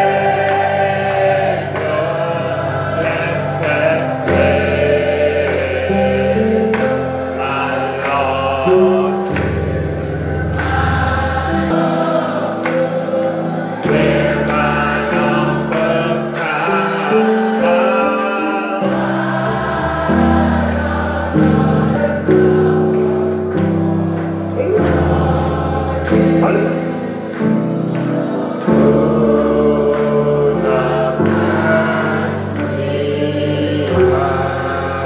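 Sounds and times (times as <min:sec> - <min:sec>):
congregation singing worship song: 0:00.0 - 0:35.0.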